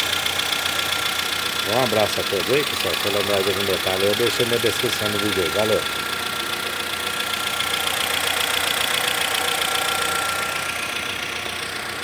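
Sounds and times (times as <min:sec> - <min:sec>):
car engine idling: 0:00.0 - 0:12.0
engine lifter ticking: 0:00.0 - 0:12.0.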